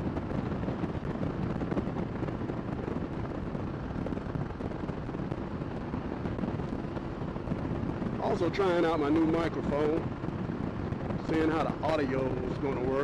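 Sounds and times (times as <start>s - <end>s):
motorcycle engine cruising: 0.0s - 13.0s
wind rushing over microphone: 0.0s - 13.0s.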